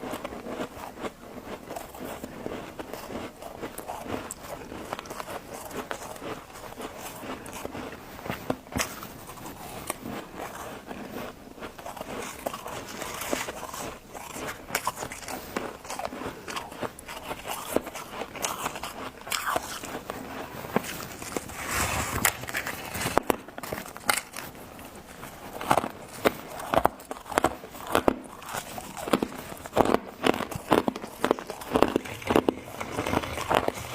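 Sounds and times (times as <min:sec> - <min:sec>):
person chewing crunchy frost: 0:00.0 - 0:33.9.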